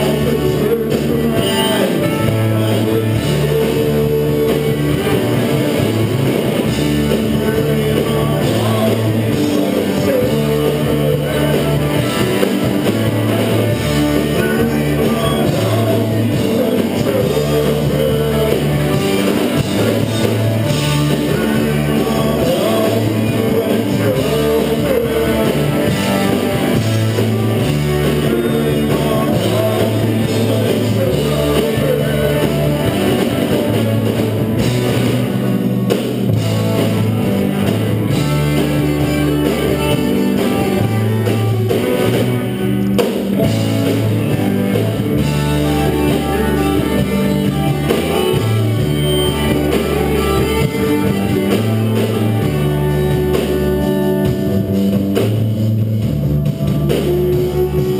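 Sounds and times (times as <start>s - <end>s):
rock band playing live: 0.0s - 57.9s.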